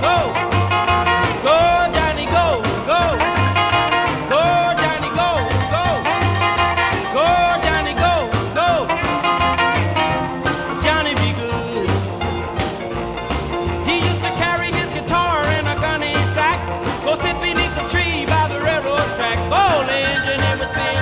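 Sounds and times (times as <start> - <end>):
song with bass beat: 0.0 - 21.0.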